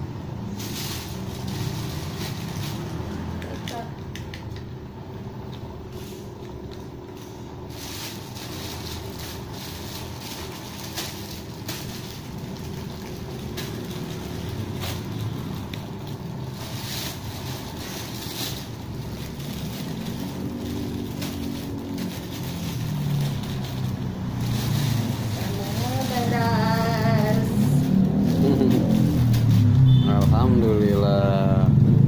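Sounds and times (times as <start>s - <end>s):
low machine hum: 0.0s - 32.0s
plastic bags rustling and crinkling: 0.4s - 3.9s, 5.9s - 31.0s.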